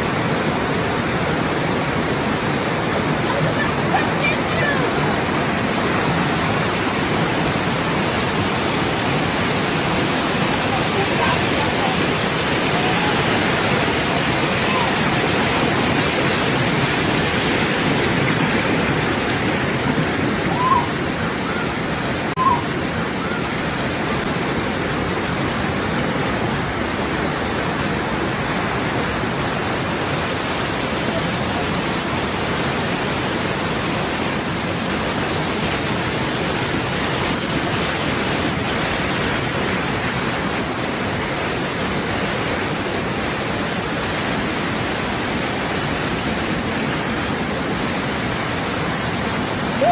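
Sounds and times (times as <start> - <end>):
water cascading over rocks: 0.0 - 49.9.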